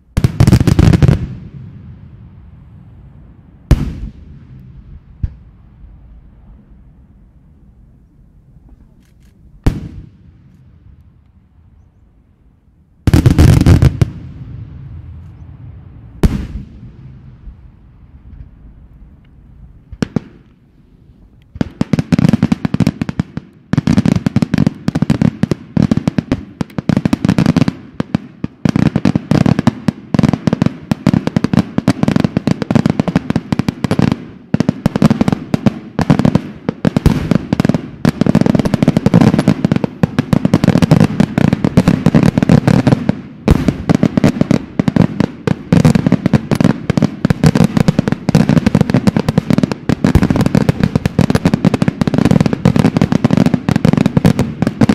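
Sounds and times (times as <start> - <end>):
fireworks bangs and crackling: 0.0 - 6.9, 9.6 - 11.2, 13.0 - 20.6, 21.2 - 54.9.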